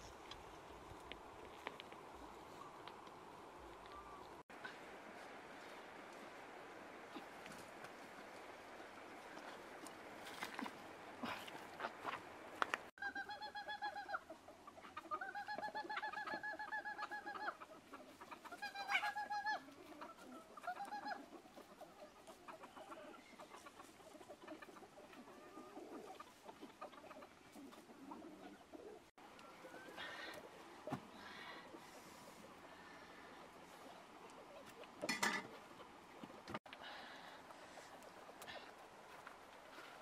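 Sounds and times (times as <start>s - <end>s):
chickens calling: 0.0s - 40.0s
chickens clucking: 2.5s - 40.0s.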